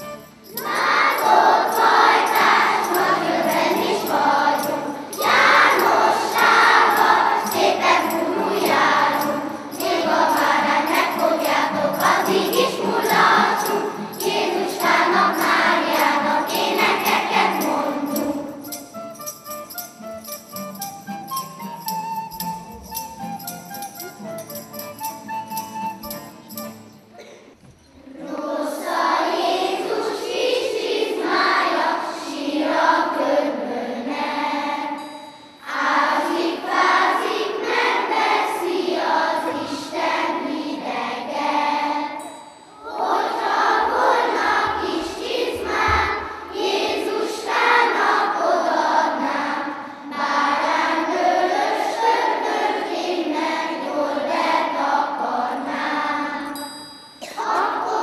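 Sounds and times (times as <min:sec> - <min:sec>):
children's choir singing: 0:00.0 - 0:58.0.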